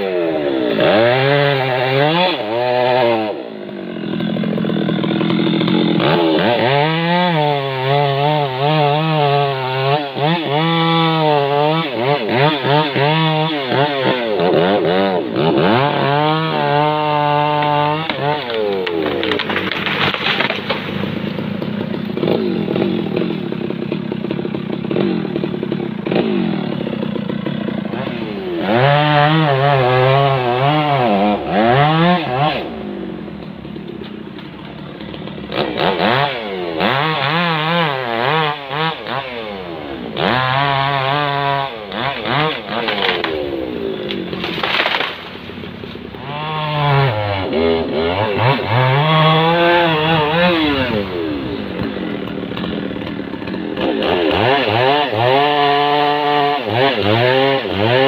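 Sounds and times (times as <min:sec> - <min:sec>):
chainsaw cutting a tree: 0:00.0 - 0:58.0.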